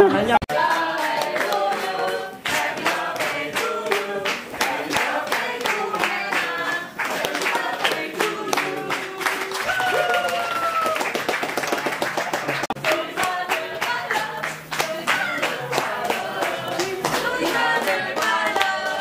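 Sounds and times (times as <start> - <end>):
group singing: 0.0 - 9.7, 12.6 - 19.0
rhythmic clapping: 0.4 - 19.0.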